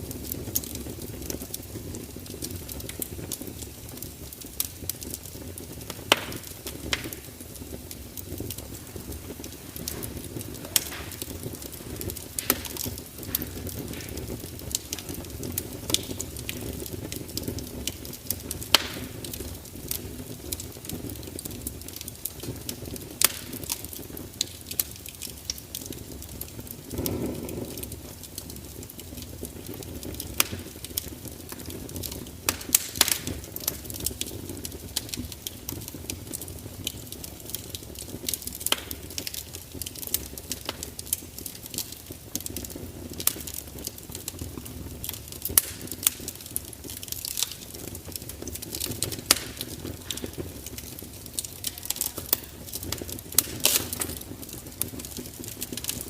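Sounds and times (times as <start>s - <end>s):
fire crackling: 0.0s - 56.0s
fire pops and snaps: 0.0s - 56.0s.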